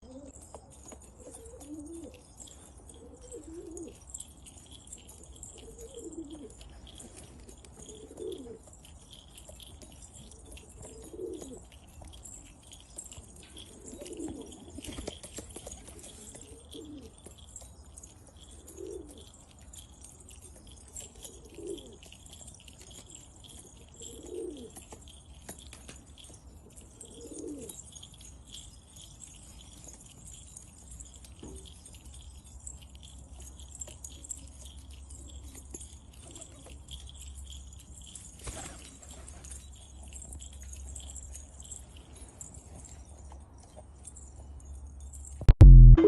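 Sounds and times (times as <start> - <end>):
pigeons cooing: 0.0 - 41.1.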